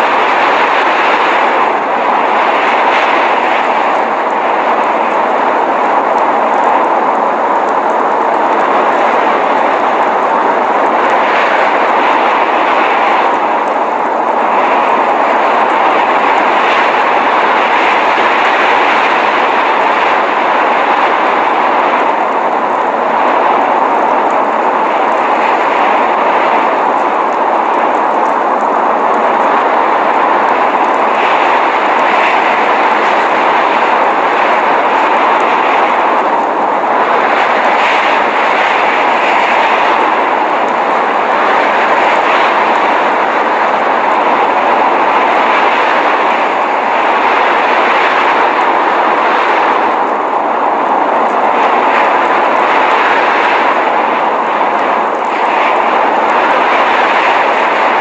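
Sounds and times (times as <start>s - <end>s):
rushing blizzard wind: 0.0s - 58.0s.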